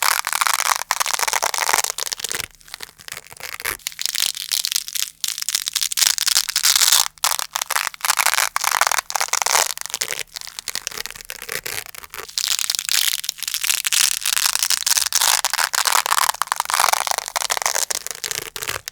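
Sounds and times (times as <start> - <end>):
velcro fastener crackling: 0.0 - 18.9.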